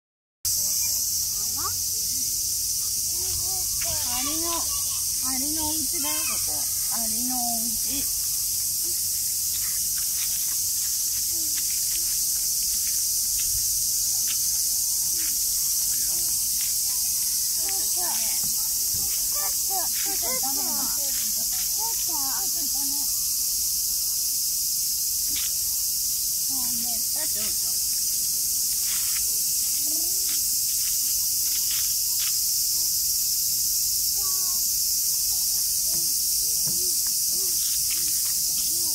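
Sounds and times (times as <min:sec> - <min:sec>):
cicadas buzzing: 0:00.5 - 0:38.9.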